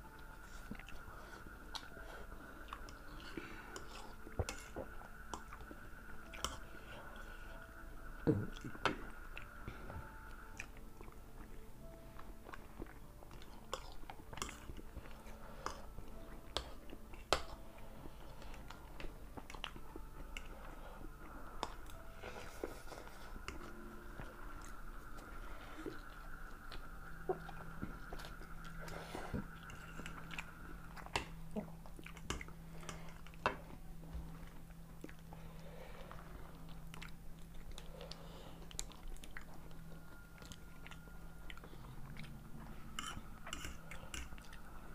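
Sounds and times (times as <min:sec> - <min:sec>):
people chewing noodles: 0:00.0 - 0:44.9.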